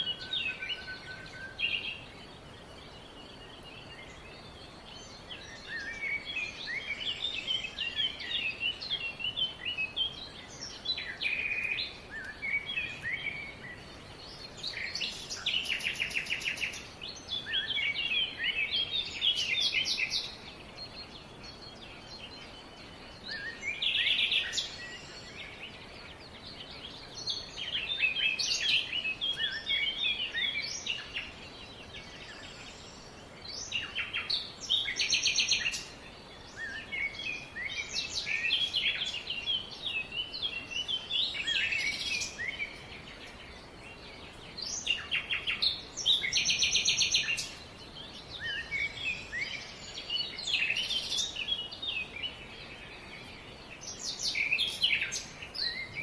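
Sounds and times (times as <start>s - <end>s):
faint background hiss: 0.0s - 56.0s
songbirds chirping and trilling: 0.0s - 56.0s.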